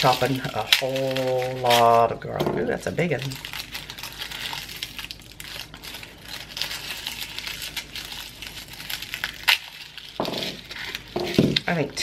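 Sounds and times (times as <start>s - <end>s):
garlic skins crinkling: 0.0s - 12.0s.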